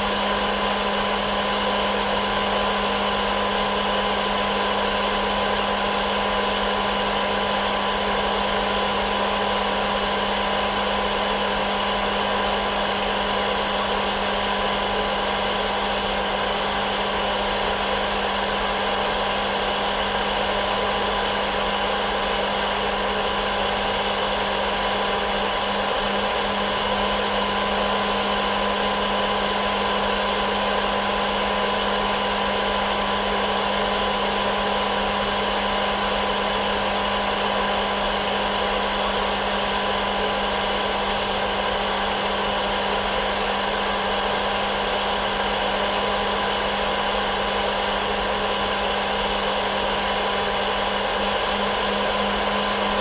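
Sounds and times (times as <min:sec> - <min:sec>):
hair dryer blowing air: 0:00.0 - 0:53.0
hair dryer motor hum: 0:00.0 - 0:53.0.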